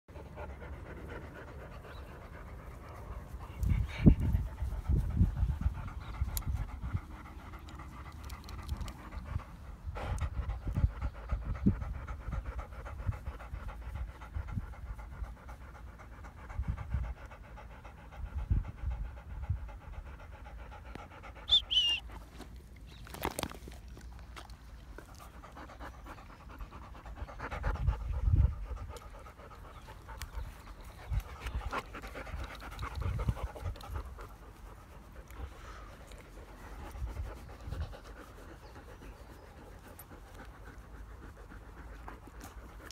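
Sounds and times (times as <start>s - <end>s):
dog panting: 0.1s - 22.5s, 24.4s - 42.9s.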